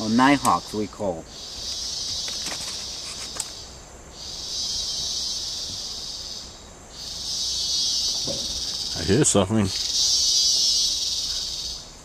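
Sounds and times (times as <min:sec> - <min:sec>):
insect buzzing: 0:00.0 - 0:12.0.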